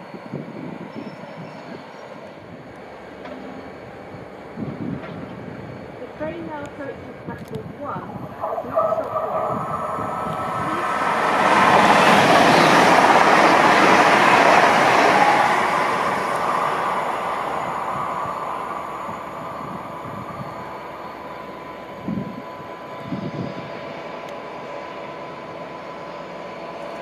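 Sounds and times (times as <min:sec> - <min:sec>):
train wheel and air noise: 0:00.0 - 0:27.0.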